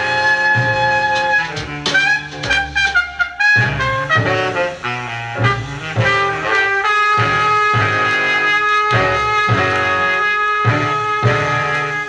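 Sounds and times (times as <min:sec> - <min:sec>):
bass: 0:00.0 - 0:12.0
jazz record playing: 0:00.0 - 0:12.0
trumpet playing: 0:00.0 - 0:12.0.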